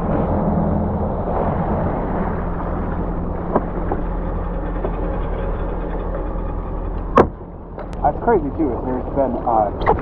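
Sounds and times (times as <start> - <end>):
jet ski engine running: 0.0 - 10.0.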